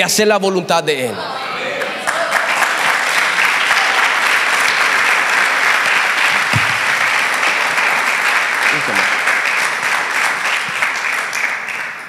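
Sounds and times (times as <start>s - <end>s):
crowd applauding: 1.8s - 12.0s.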